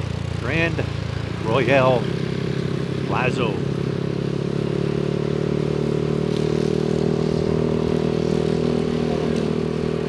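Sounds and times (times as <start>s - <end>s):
scooter engine running steadily: 0.0s - 10.0s.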